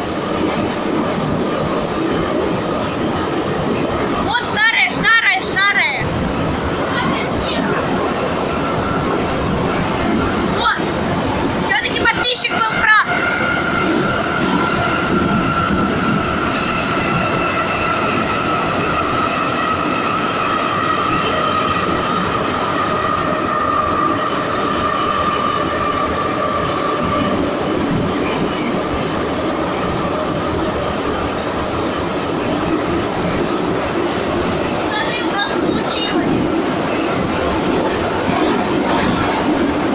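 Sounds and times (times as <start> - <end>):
high train whine: 0.0 - 39.9
train running rumble: 0.0 - 39.9.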